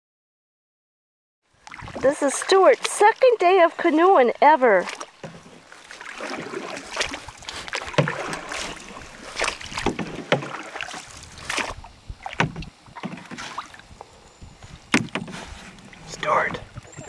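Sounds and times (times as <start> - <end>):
paddles splashing in water: 1.6 - 17.0.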